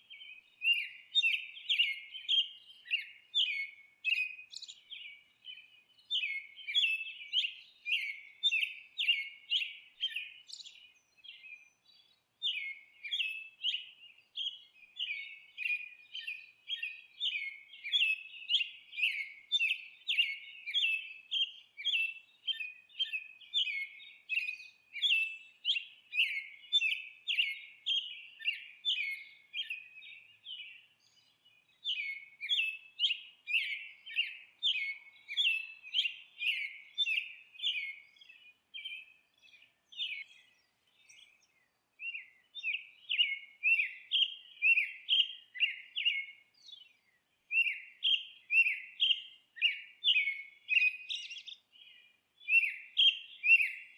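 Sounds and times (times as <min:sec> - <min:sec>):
songbird chirping: 0:00.0 - 0:53.9.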